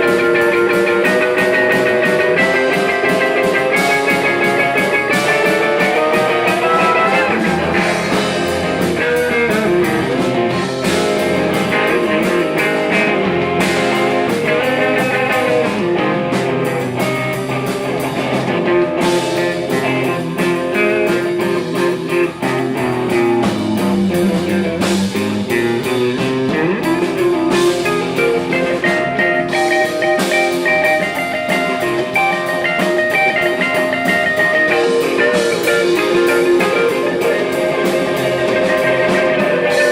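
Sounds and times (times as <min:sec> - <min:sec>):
blues-rock electric guitar music: 0:00.0 - 0:39.9.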